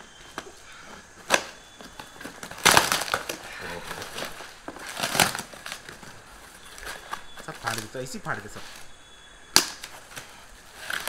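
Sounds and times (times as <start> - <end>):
packing material tearing: 1.2 - 8.9, 9.6 - 11.0
packing material crinkling: 1.2 - 9.0, 9.6 - 11.0.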